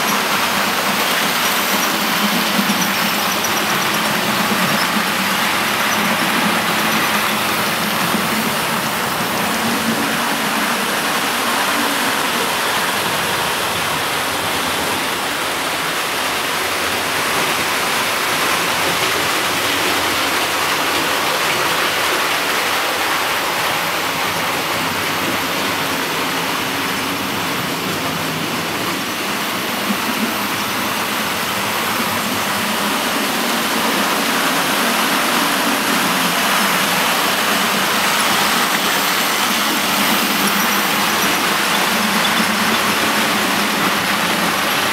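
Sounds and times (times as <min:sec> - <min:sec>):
model train wheels on rails: 0:00.0 - 0:44.9.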